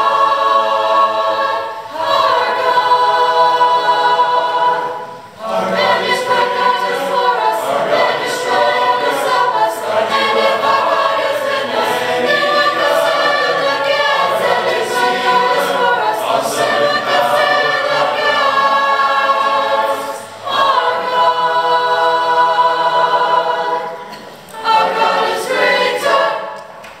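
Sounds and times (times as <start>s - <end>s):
youth choir singing a cappella: 0.0s - 27.0s.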